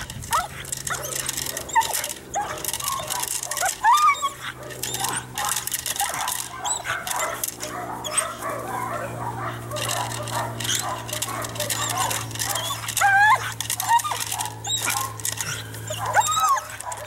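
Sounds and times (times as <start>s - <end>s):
dog barking and whining: 0.0s - 17.0s
dog yelping: 0.0s - 17.0s.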